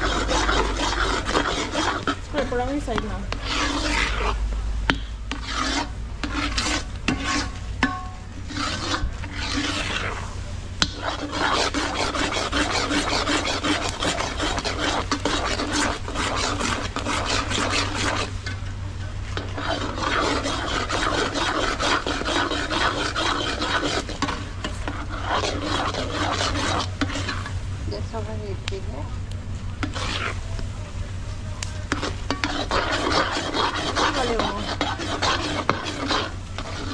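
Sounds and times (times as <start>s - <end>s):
spoon scraping pot bottom: 0.0s - 27.6s, 29.7s - 30.5s, 31.7s - 36.9s.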